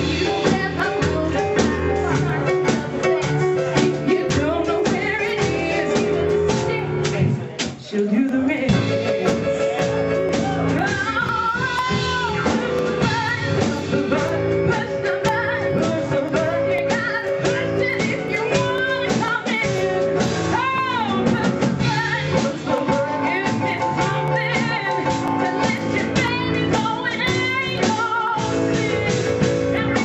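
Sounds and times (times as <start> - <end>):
bending melody line: 0.0 - 7.2, 8.2 - 30.0
bluesy band groove: 0.0 - 30.0.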